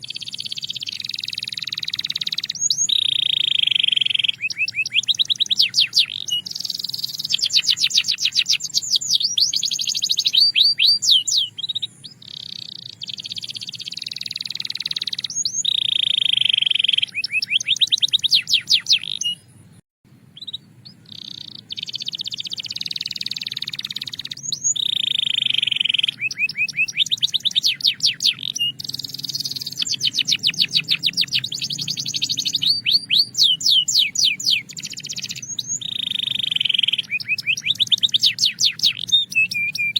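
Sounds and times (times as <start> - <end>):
canary singing trills and whistles: 0.0 - 39.9.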